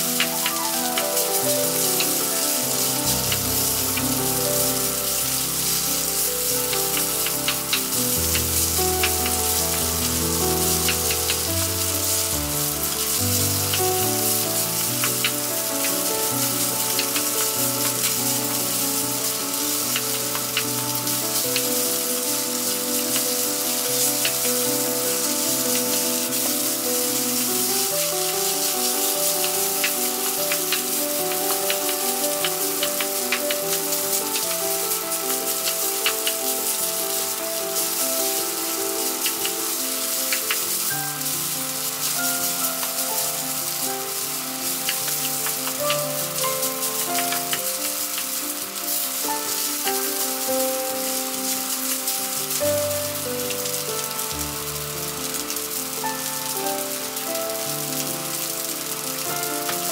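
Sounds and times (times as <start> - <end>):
background music with held notes: 0.0 - 59.9
food sizzling in frying pan: 0.0 - 59.9.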